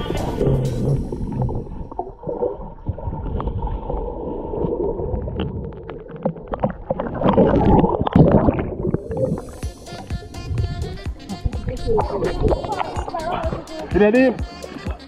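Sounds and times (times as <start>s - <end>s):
muffled river water sloshing: 0.0s - 13.8s.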